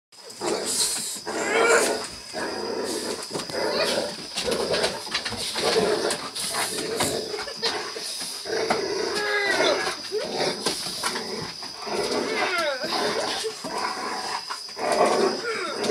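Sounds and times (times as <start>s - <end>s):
dogs growling and grunting: 0.2s - 15.9s.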